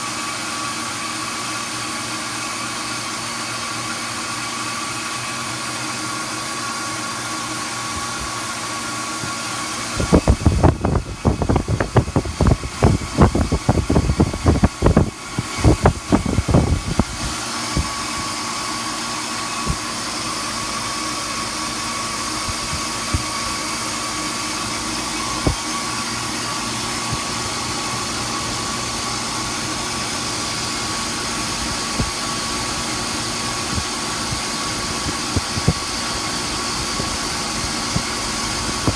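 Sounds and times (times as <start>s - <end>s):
hvac unit humming: 0.0s - 38.9s.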